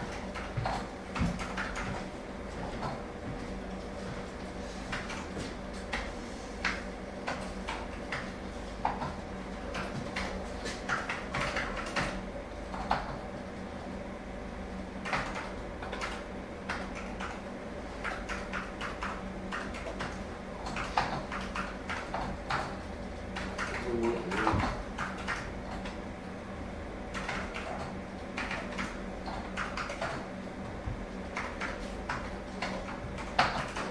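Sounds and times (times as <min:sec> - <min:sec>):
background hum: 0:00.0 - 0:33.9.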